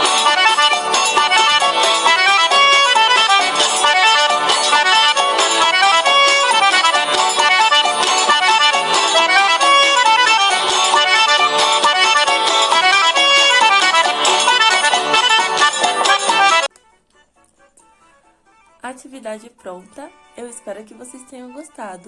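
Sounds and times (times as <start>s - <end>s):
accordion-led folk music: 0.0s - 22.0s.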